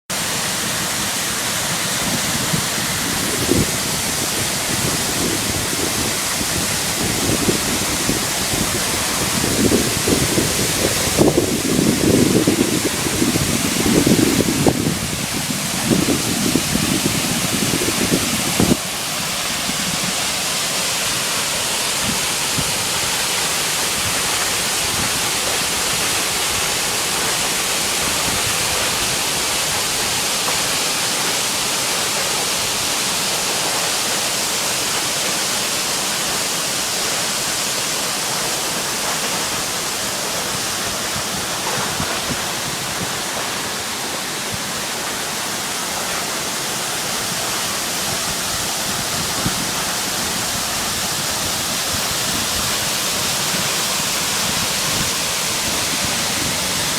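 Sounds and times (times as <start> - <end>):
waterfall rushing: 0.0 - 56.9
wind buffeting microphone: 0.7 - 30.5, 38.8 - 56.9.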